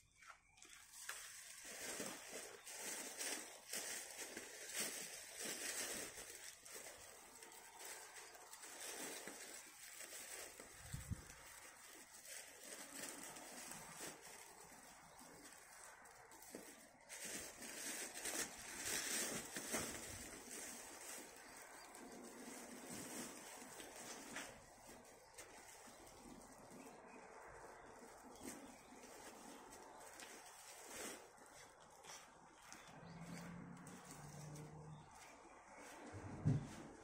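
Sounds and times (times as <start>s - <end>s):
plastic bag crinkling: 0.4s - 36.1s
weeds rustling: 0.6s - 37.0s.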